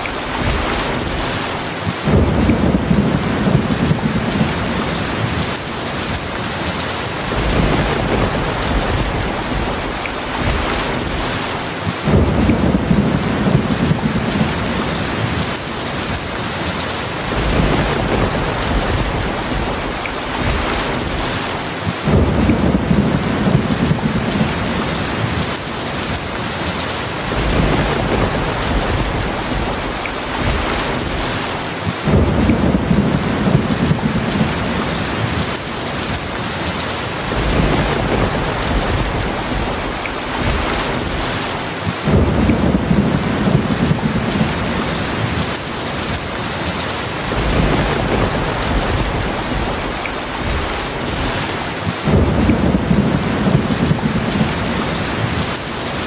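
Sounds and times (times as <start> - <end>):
heavy rain hiss: 0.0 - 56.0
thunder rumbling: 0.0 - 56.0.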